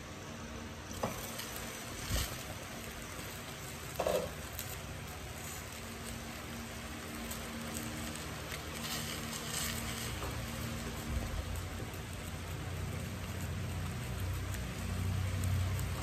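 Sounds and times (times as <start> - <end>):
meat sizzling in hot oil: 0.9 - 16.0.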